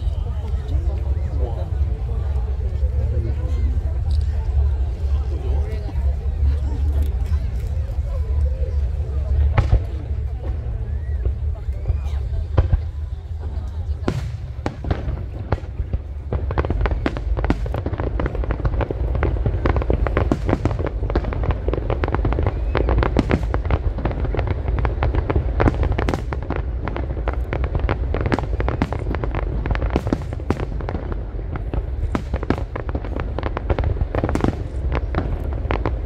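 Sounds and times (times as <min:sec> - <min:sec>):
deep rumble: 0:00.0 - 0:36.0.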